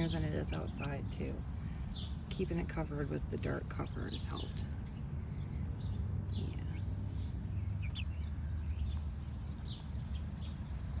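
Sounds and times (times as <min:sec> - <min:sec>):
chicks peeping: 0:00.0 - 0:11.0
steady low rumble: 0:00.0 - 0:11.0.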